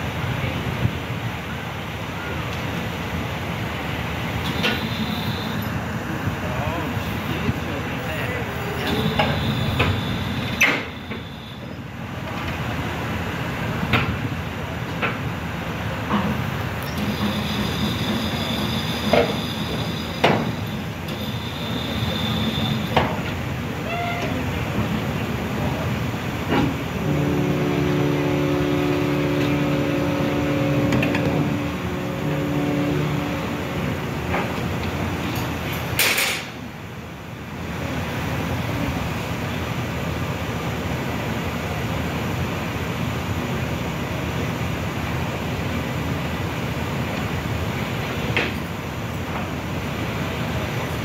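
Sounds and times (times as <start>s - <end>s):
machinery rumble and hum: 0.0s - 51.0s.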